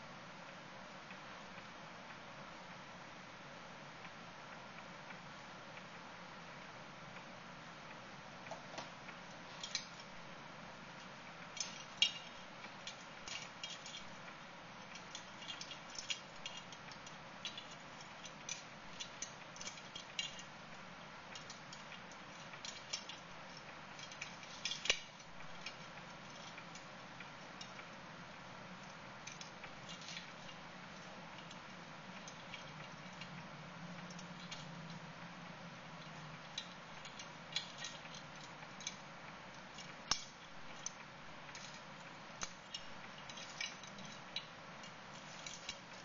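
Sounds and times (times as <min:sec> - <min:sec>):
faint room hum: 0:00.0 - 0:46.0.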